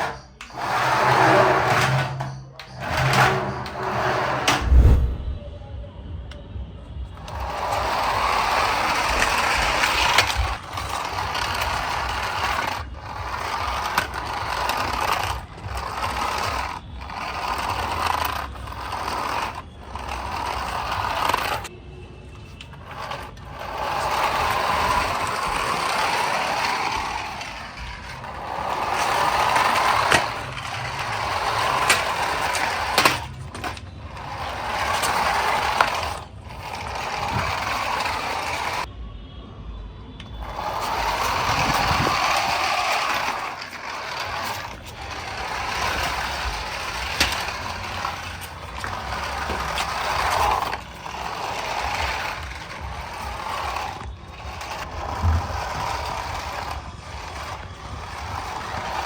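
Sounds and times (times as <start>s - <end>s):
toy car motor whirring: 0.0s - 4.8s, 7.1s - 38.9s, 40.2s - 59.0s.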